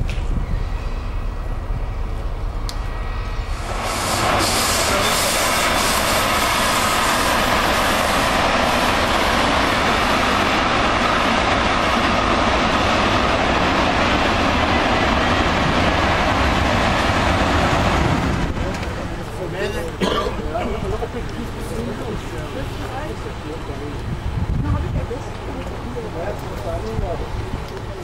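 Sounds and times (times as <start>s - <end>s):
train wheels rolling on track: 0.0s - 28.0s.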